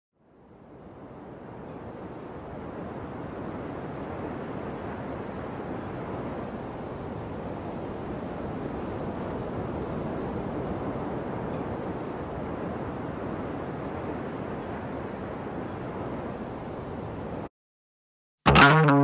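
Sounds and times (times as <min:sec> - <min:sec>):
ocean surf: 0:00.8 - 0:17.5.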